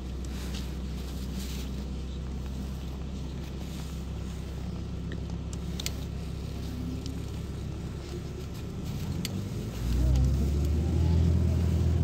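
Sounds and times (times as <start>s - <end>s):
bus engine and road drone: 0.0s - 12.0s.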